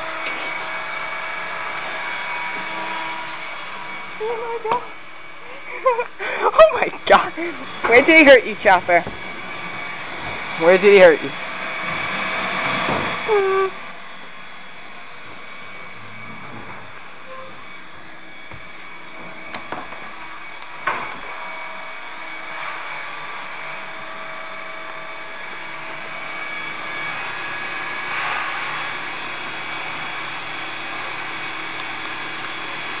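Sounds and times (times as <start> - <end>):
vacuum cleaner motor whining: 0.0 - 33.0.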